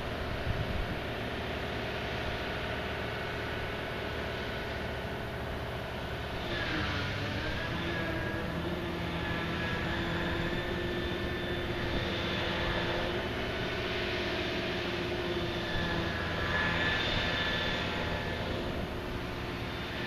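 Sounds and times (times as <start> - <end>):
diesel machinery droning: 0.0 - 20.0
faint hydraulic whine: 0.0 - 20.0.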